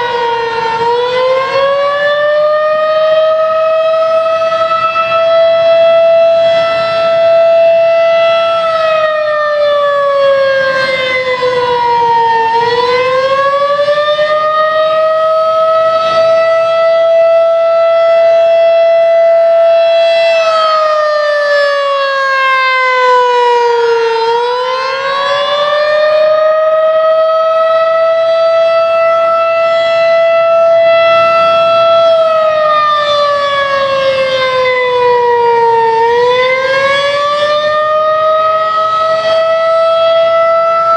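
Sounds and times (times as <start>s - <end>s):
civil defense siren wailing: 0.0s - 40.9s.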